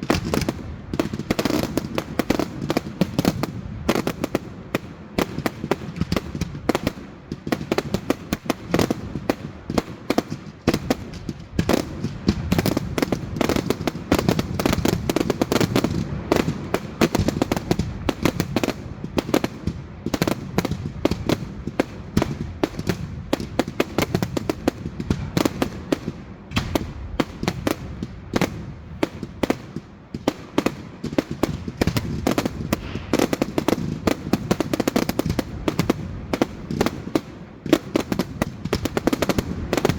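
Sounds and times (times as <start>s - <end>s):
fireworks cracks and bangs: 0.0s - 39.9s.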